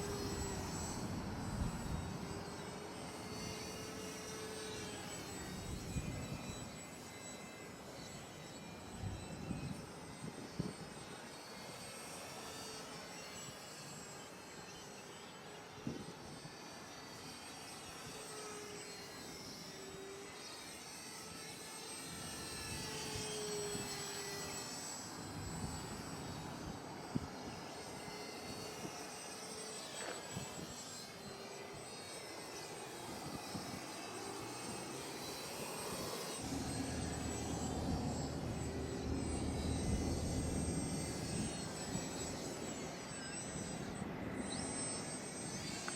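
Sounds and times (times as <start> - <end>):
model airplane motor buzzing: 0.0 - 45.9.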